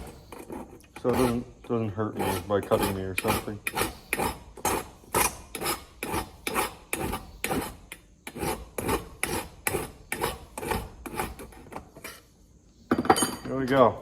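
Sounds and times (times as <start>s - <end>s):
hand file rasping on metal: 0.0s - 12.2s.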